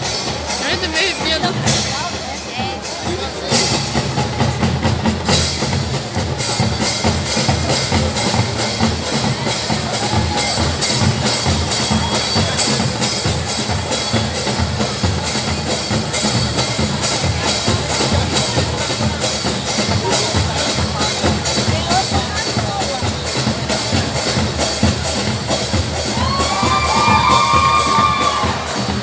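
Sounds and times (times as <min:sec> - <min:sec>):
marching band drums and percussion: 0:00.0 - 0:29.0.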